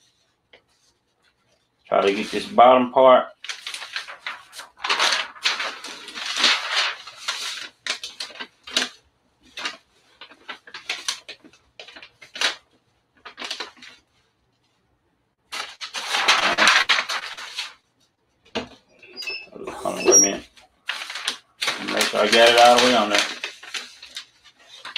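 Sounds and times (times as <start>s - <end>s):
towel and paper rustling: 0.0s - 2.6s, 3.3s - 14.9s, 15.5s - 18.2s, 19.6s - 24.9s.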